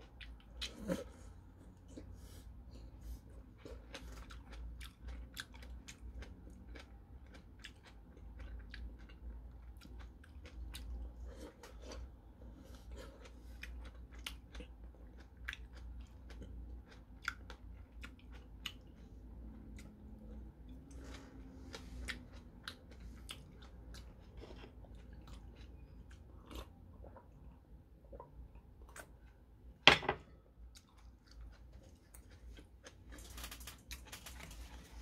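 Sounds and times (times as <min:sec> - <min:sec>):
person chewing tomato: 0:00.0 - 0:29.7, 0:30.5 - 0:35.0.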